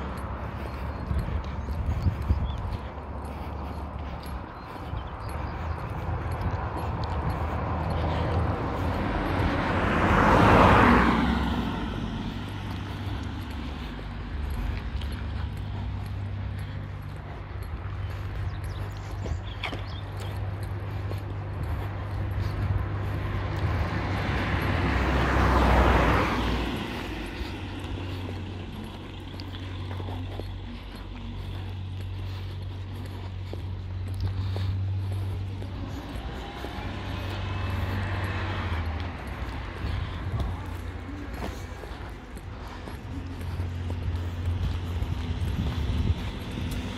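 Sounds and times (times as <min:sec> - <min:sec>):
car passing by: 0:00.0 - 0:46.9.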